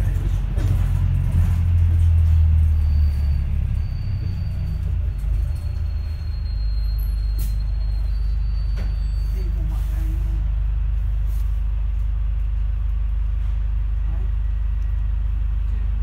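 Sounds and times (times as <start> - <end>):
bus engine low drone: 0.0 - 16.0.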